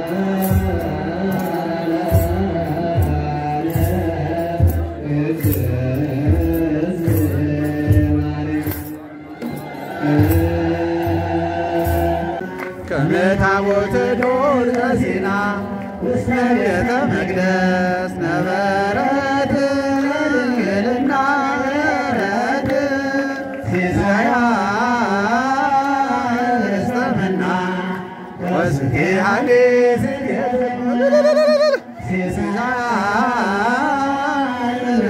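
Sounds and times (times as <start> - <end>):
man singing a hymn chant: 0.0 - 35.0.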